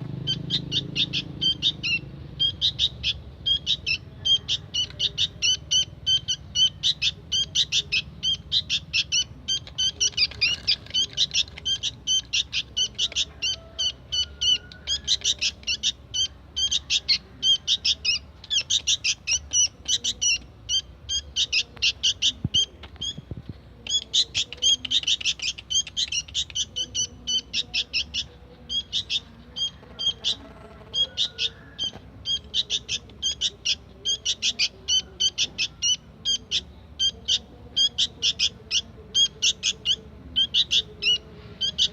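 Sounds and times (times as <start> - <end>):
young bulbul chirping: 0.0 - 41.9.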